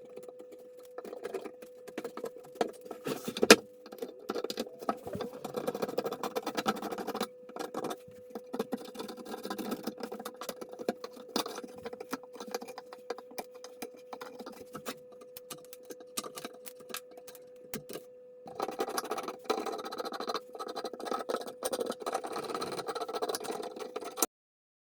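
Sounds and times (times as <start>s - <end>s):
faint steady hum: 0.0s - 24.3s
taps and scrapes on wood: 0.0s - 24.3s.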